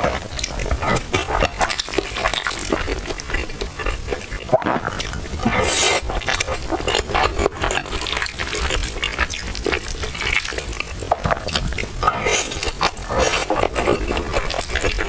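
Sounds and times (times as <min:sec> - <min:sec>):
wet chewing clicks and smacks: 0:00.3 - 0:15.0.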